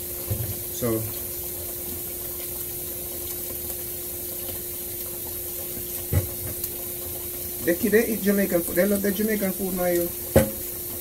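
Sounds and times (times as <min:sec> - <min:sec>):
low appliance hum: 0:00.0 - 0:11.0
water running into sink: 0:00.0 - 0:11.0.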